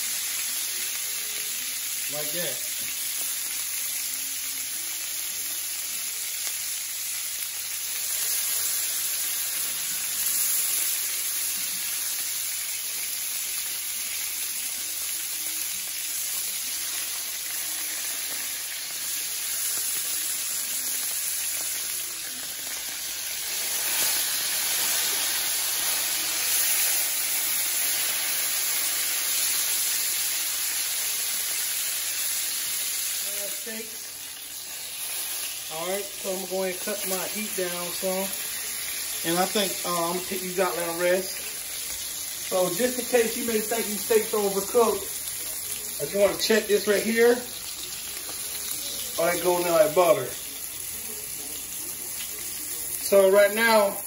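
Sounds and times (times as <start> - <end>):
steaks sizzling in a skillet: 0.0 - 54.0.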